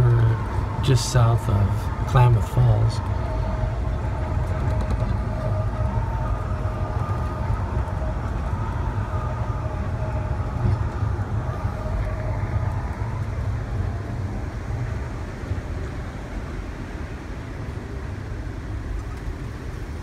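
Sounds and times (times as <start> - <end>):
faint steady whine: 0.0 - 20.0
train wheels rumbling on rail: 0.0 - 20.0.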